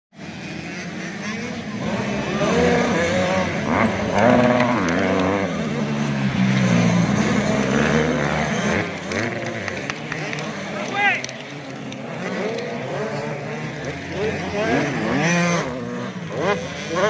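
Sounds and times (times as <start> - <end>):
motocross bikes revving: 0.2 - 17.0.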